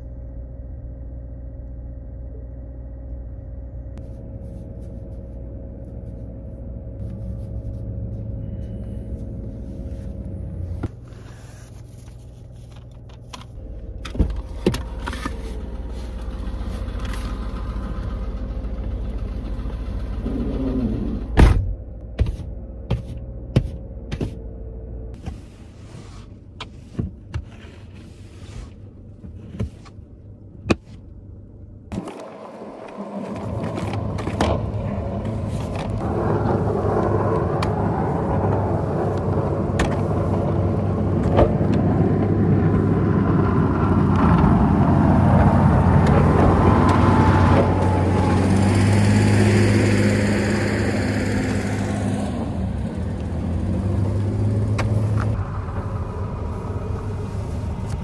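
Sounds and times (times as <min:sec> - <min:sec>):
car engine hum and road rush: 0:00.0 - 0:58.0.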